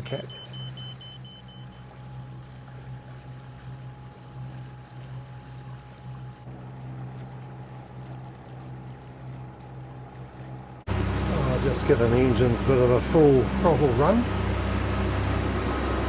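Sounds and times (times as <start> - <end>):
boat diesel engines running: 0.0 - 16.0
faint steady whine: 0.0 - 16.0.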